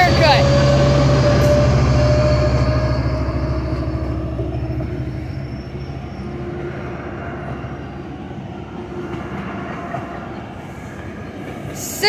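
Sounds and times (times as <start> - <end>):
diesel locomotive engine drone: 0.0 - 12.0
passenger cars rolling past: 0.0 - 12.0.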